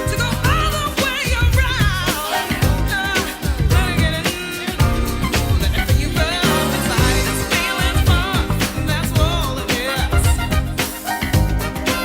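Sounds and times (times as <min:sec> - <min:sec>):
bass: 0:00.0 - 0:12.0
person singing: 0:00.0 - 0:12.0
soul dance music with beat: 0:00.0 - 0:12.0.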